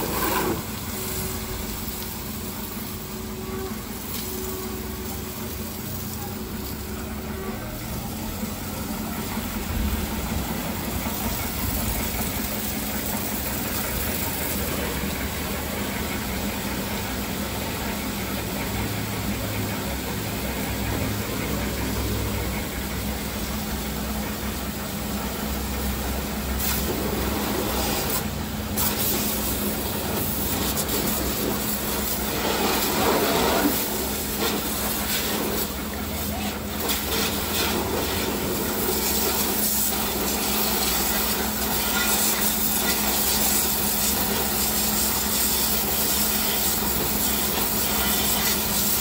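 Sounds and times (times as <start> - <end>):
pressure washer motor hum: 0.0 - 49.0
water jet hissing: 0.0 - 49.0.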